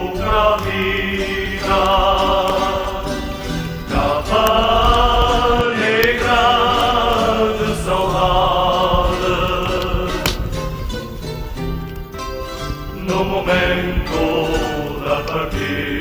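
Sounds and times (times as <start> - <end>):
choir holding wordless notes: 0.0 - 16.0.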